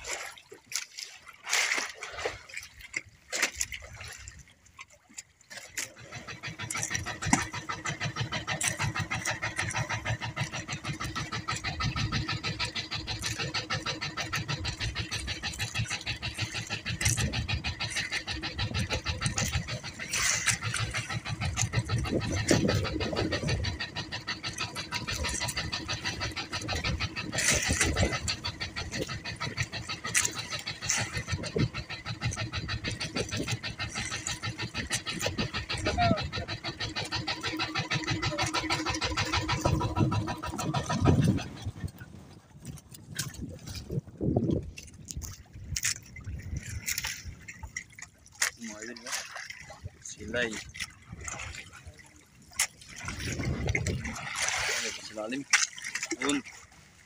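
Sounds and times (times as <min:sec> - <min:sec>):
boat engine chugging: 0:00.0 - 0:57.0.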